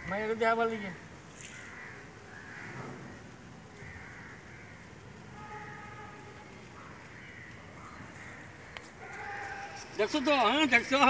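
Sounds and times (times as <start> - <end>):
crows cawing: 1.0 - 11.0.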